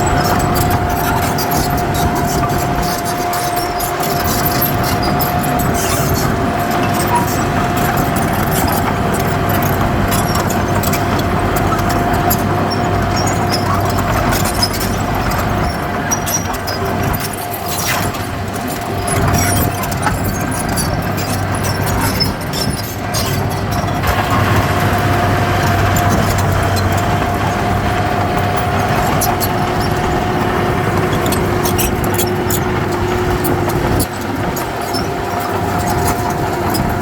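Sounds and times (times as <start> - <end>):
diesel machinery engine: 0.0 - 37.0
sharp clicks and clanks: 0.0 - 37.0.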